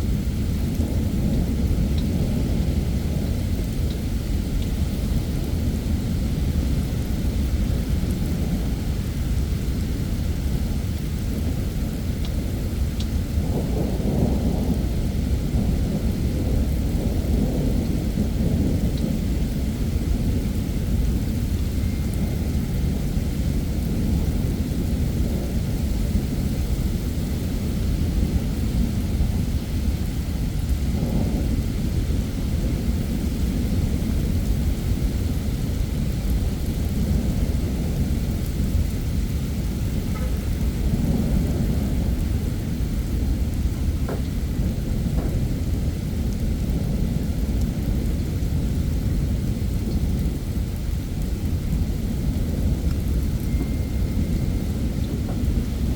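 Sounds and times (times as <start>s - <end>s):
heavy rain downpour: 0.0s - 55.9s
low rumbling thunder: 0.0s - 55.9s.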